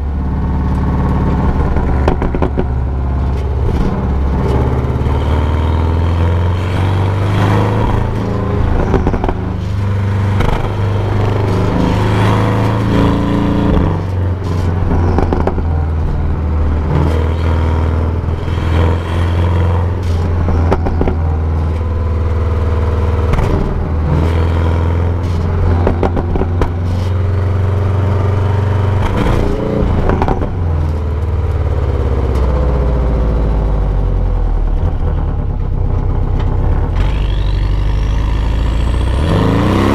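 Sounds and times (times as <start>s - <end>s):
sports car exhaust revving: 0.0s - 39.9s.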